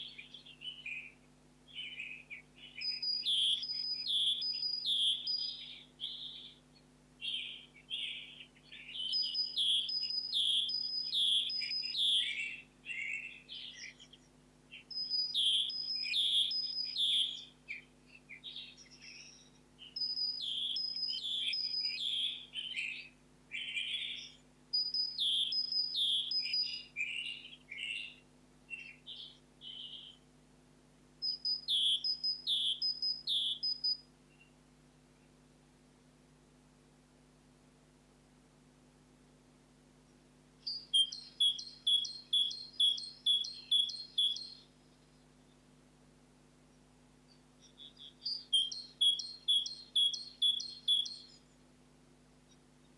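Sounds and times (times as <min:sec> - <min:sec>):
songbird singing: 0:00.0 - 0:36.3, 0:39.1 - 0:52.9.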